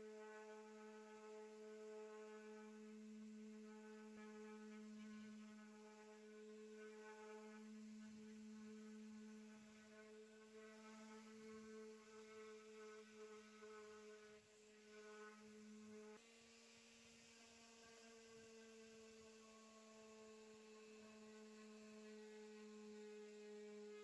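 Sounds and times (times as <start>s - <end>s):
electric sander humming: 0.0s - 16.7s, 17.3s - 24.0s.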